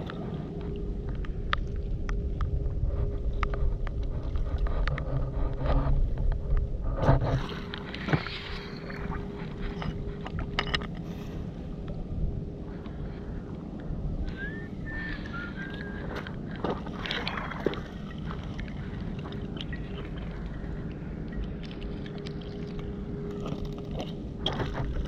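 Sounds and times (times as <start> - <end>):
low steady drone: 0.0 - 25.0.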